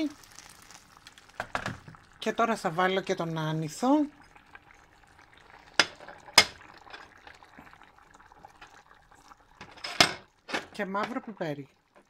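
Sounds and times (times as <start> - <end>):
rice bubbling in pan: 0.0 - 12.0.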